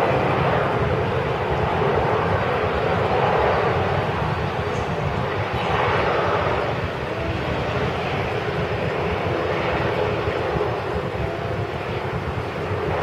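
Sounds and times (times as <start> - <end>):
turboprop airliner engines running: 0.0 - 13.0.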